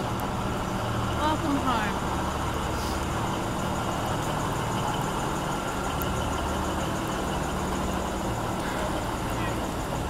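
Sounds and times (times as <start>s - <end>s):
diesel railcar idling hum: 0.0s - 10.0s.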